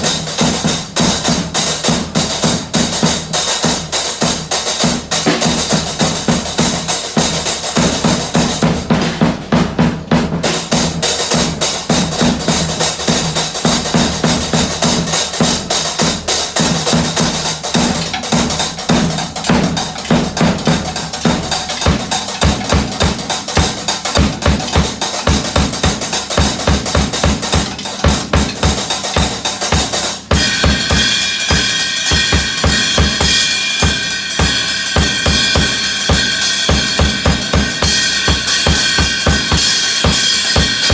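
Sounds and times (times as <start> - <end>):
deep regular drum beats: 0.0 - 40.9
drums in fast busy beat: 0.0 - 40.9.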